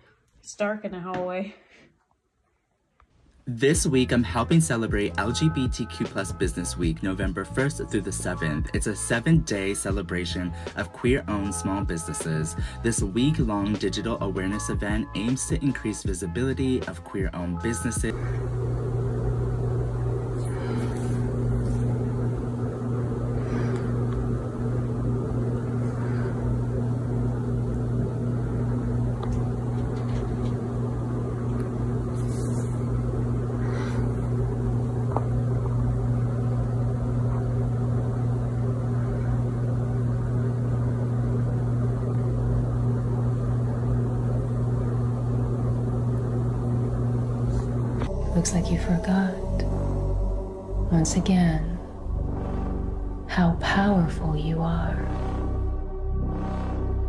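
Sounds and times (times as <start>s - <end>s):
motor low hum: 3.4s - 57.0s.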